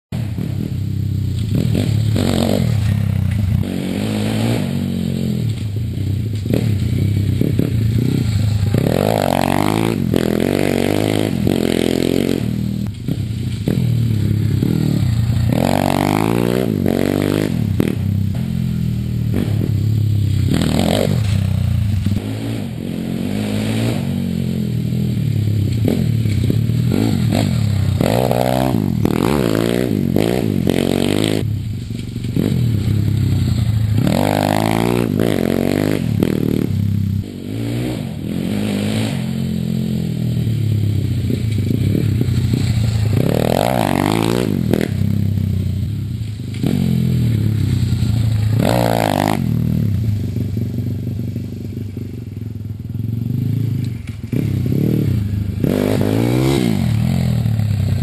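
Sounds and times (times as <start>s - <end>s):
pit bike engine revving: 0.2s - 58.0s.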